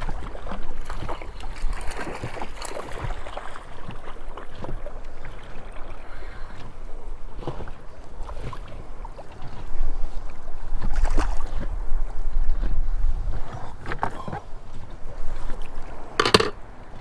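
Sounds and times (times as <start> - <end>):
water splashing and lapping: 0.0 - 17.0.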